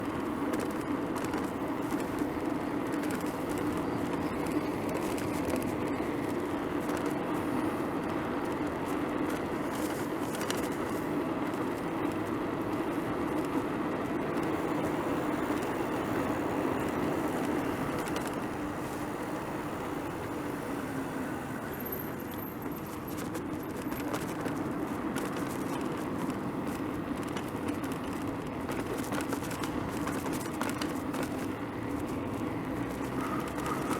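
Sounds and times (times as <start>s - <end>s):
bicycle tyres rolling on pavement: 0.0s - 33.9s
road traffic passing: 0.0s - 33.9s.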